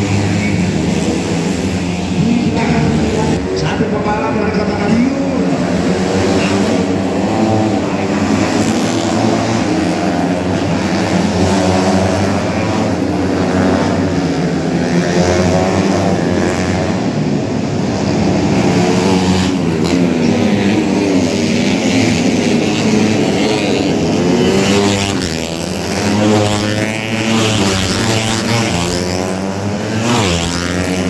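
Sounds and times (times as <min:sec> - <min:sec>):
racing motorcycle engines accelerating: 0:00.0 - 0:31.0.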